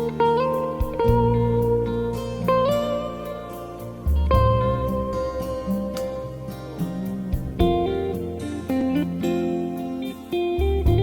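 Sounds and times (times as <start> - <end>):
guitar music from cassette: 0.0 - 11.0.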